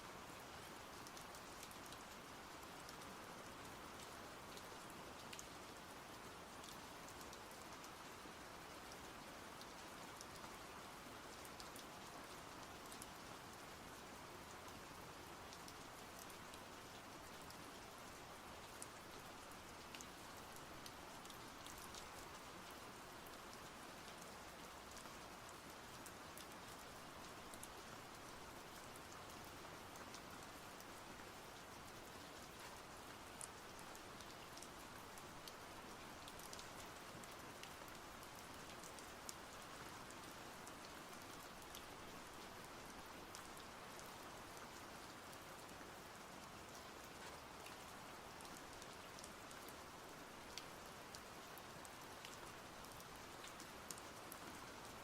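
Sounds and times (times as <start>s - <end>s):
soft steady rain: 0.0s - 55.0s
light raindrop ticks: 0.2s - 55.0s.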